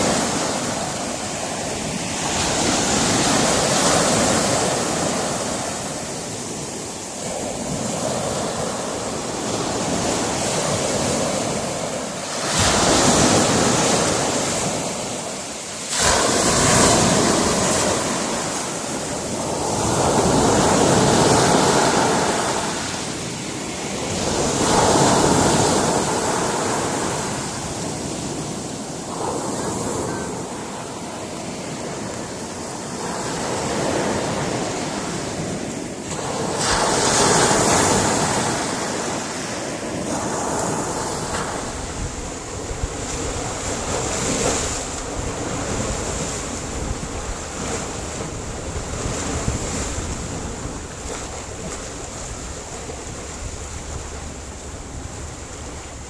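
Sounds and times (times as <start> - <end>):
waves breaking on rocky shore: 0.0 - 56.0.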